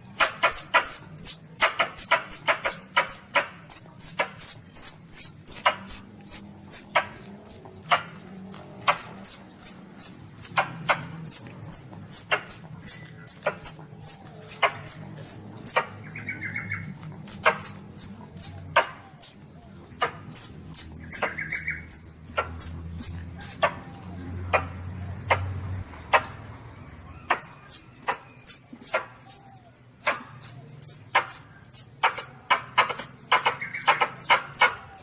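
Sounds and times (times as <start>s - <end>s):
high-pitched animal squeaks: 0.0s - 8.1s, 8.9s - 16.0s, 17.2s - 23.8s, 27.2s - 35.0s.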